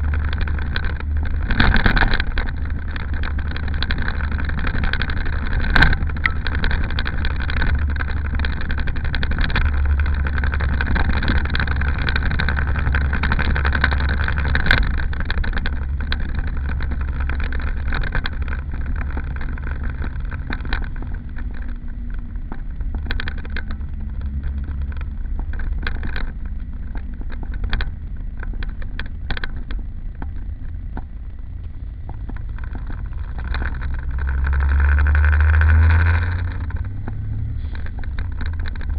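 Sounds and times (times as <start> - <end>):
car engine drone: 0.0 - 38.9
light clicks and rattles: 0.0 - 38.9.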